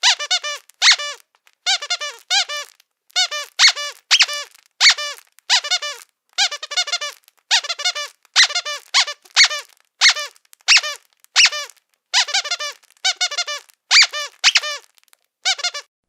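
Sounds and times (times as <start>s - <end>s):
squeaky dog toy squeaking: 0.0s - 15.9s.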